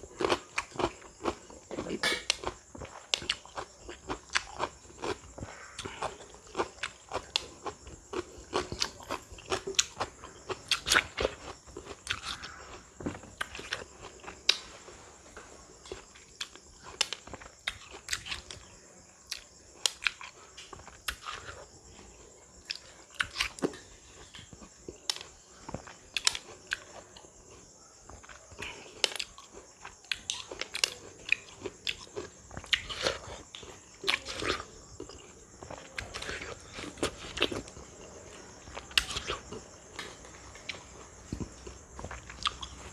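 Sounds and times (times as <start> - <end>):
chewing and crunching crisp fruit: 0.0 - 42.9.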